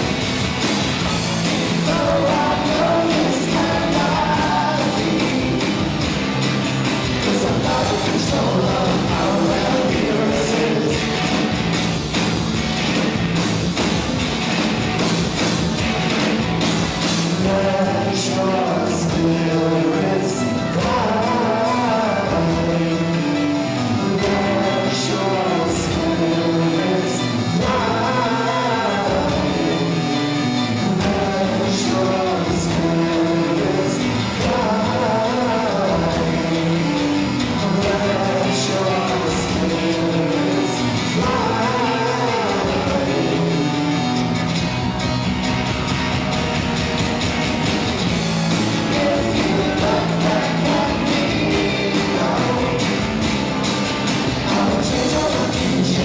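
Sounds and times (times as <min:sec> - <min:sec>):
live band playing: 0:00.0 - 0:56.0
sung lead vocal: 0:01.1 - 0:12.3, 0:17.0 - 0:44.5, 0:48.1 - 0:56.0.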